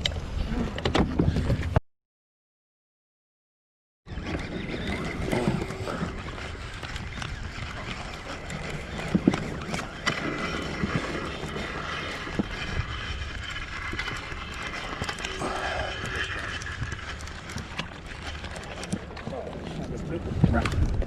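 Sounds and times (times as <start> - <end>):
boat engine low rumble: 4.1 - 21.0
water noise: 4.1 - 21.0.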